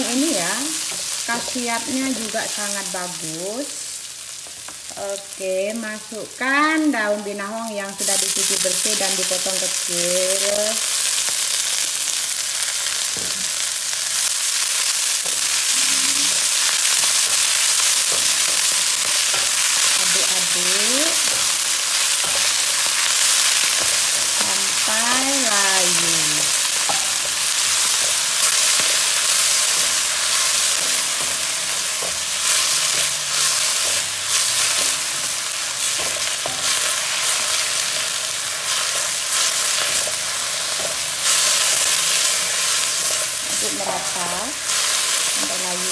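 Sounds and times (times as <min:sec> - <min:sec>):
leaves sizzling in hot oil: 0:00.0 - 0:45.9.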